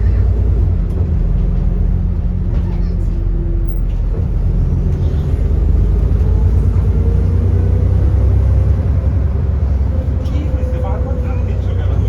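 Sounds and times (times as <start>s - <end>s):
bus diesel engine accelerating: 0.0s - 12.0s.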